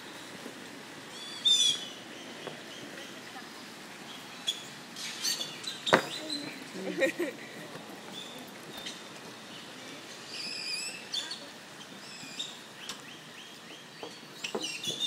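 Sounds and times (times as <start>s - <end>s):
birds calling: 0.0s - 15.0s
steady background hiss: 0.0s - 15.0s.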